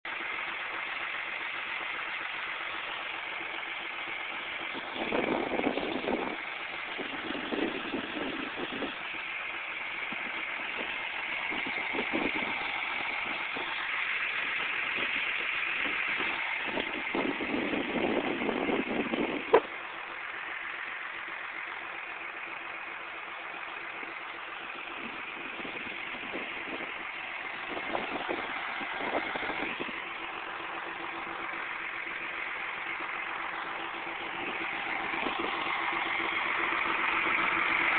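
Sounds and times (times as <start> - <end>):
diesel tractor engine idling: 0.0 - 37.9.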